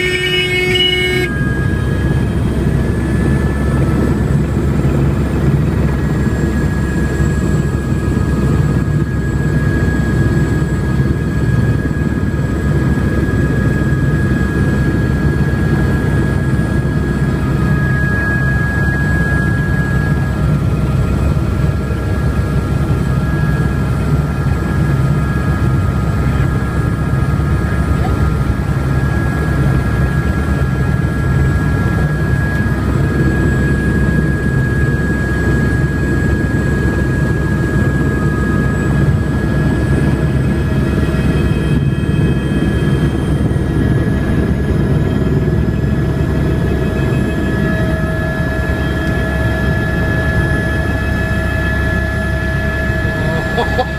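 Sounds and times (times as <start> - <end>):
helicopter high whine: 0.0 - 53.9
helicopter rotor beat: 0.0 - 53.9.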